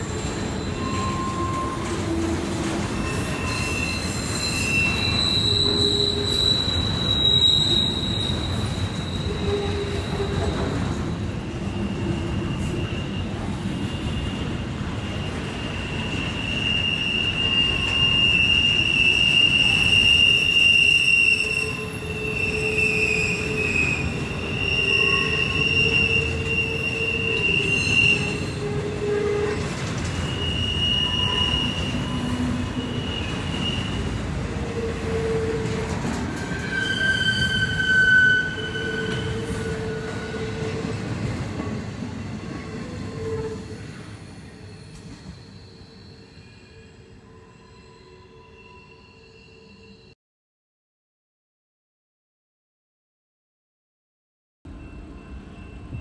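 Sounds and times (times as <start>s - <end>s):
high-pitched wheel squeal: 0.0s - 41.0s, 42.2s - 50.2s
freight train cars rumbling past: 0.0s - 46.3s.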